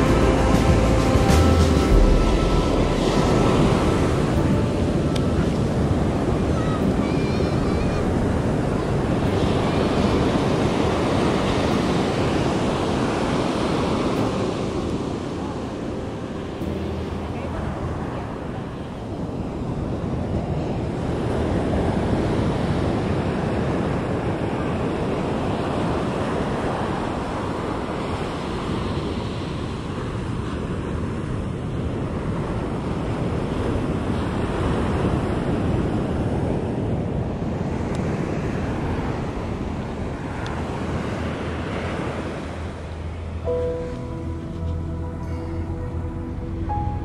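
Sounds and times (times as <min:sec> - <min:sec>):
ocean surf on beach: 0:00.0 - 0:47.0.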